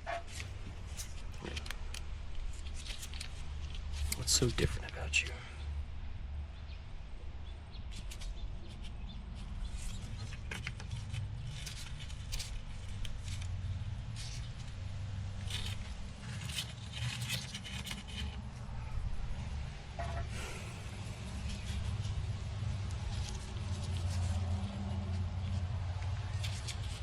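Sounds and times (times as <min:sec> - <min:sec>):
steady low hum: 0:05.4 - 0:27.0.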